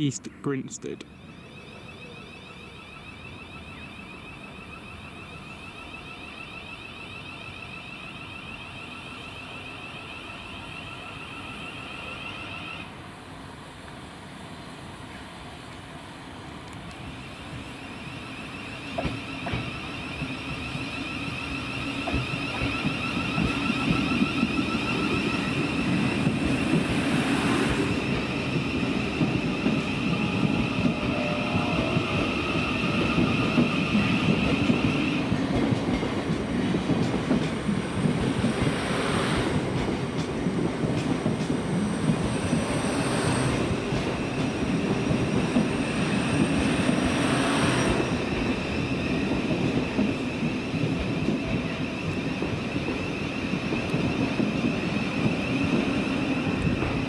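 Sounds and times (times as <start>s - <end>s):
train wheels rumbling on rail: 1.3s - 57.0s.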